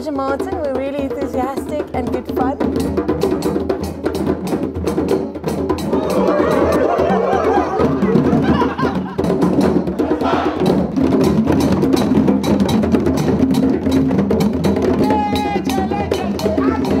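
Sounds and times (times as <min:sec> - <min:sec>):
djembes drumming: 0:00.0 - 0:17.0.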